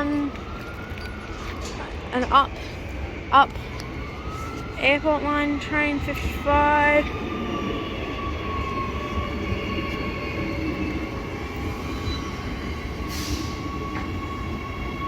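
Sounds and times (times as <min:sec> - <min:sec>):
electric train rumble and whine: 0:00.0 - 0:15.0.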